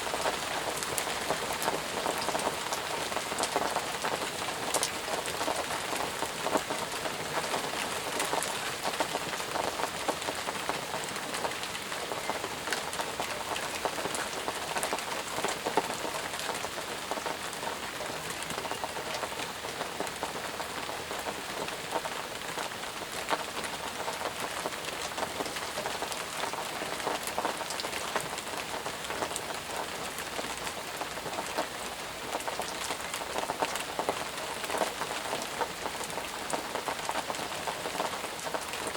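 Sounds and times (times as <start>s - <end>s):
rain on foliage and ground: 0.0s - 38.9s.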